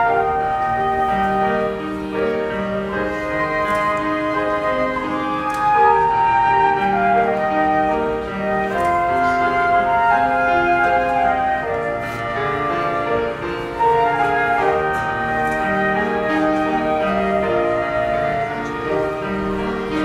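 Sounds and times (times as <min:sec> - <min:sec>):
flutes playing slow melody: 0:00.0 - 0:20.0
keyboard accompaniment: 0:00.0 - 0:20.0.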